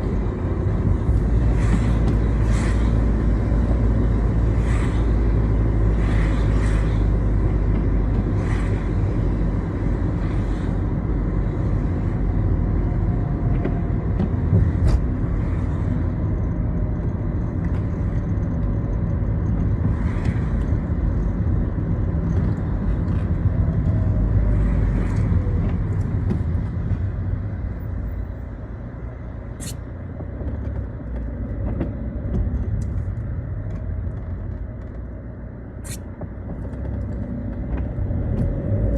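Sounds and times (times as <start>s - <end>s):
car engine and tyre rumble: 0.0s - 38.9s
tyres swishing on wet road: 0.0s - 38.9s.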